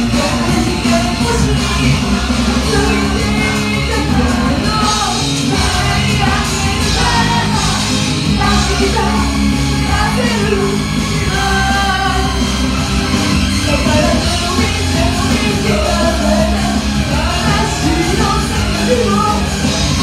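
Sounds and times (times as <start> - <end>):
amplified rock music: 0.0 - 20.0.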